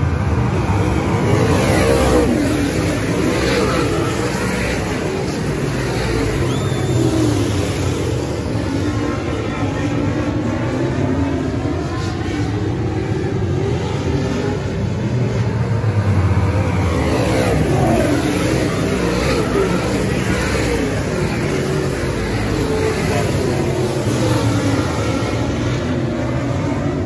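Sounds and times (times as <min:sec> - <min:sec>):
race car engines passing: 0:00.0 - 0:27.0.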